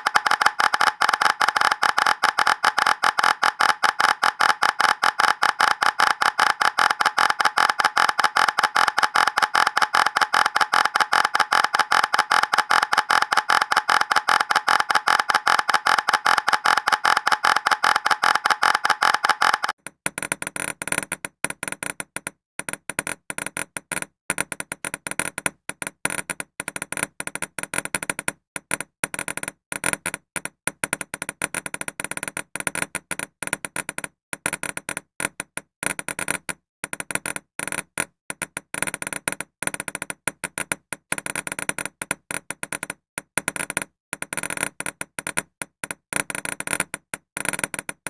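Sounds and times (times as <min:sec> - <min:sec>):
synthetic clicks of bouncing balls: 0:00.0 - 0:48.0.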